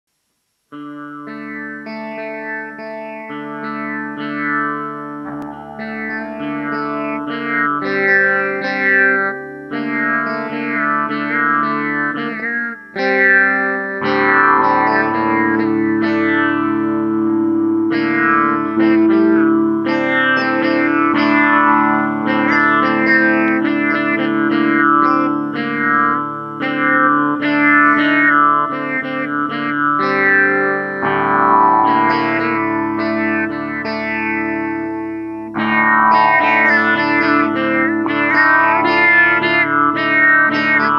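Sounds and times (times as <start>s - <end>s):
sitar-like guitar strummed: 0.7s - 40.9s.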